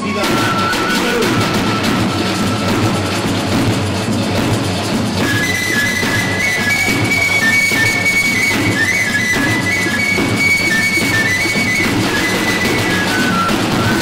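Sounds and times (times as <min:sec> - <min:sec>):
high flute melody: 0:00.0 - 0:03.7, 0:05.2 - 0:14.0
hand drums and congas: 0:00.0 - 0:14.0.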